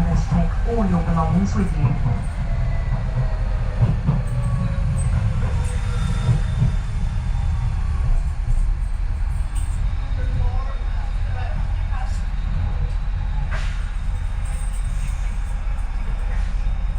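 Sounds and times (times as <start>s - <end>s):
faint train whine: 0.0s - 16.9s
train wheels rumbling on track: 0.0s - 16.9s.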